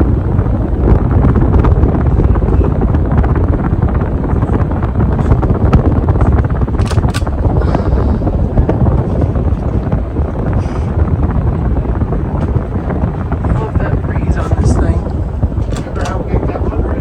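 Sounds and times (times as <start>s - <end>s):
fan wind buffeting microphone: 0.0s - 17.0s.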